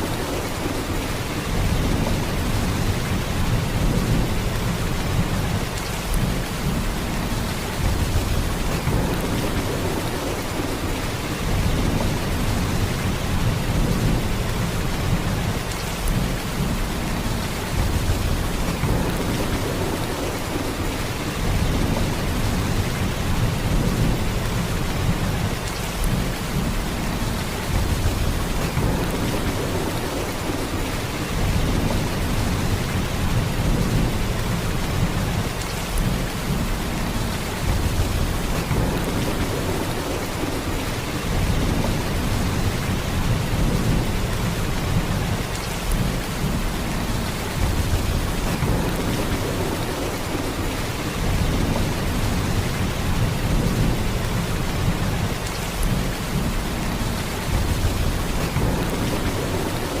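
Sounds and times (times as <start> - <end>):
heavy rain downpour: 0.0 - 60.0.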